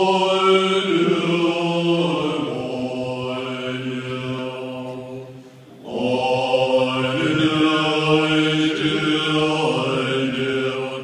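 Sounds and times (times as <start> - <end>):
monks chanting in deep voices: 0.0 - 11.0.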